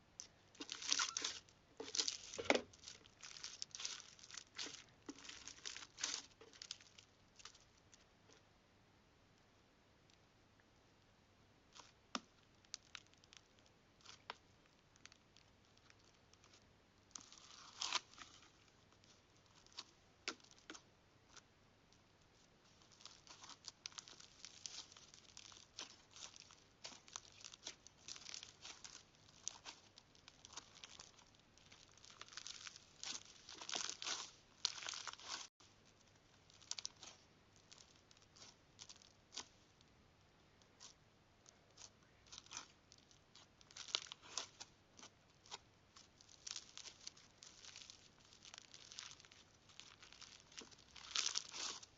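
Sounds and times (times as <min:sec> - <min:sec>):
slime crackling and popping: 0:00.2 - 0:08.0, 0:11.7 - 0:39.9, 0:40.6 - 0:51.9.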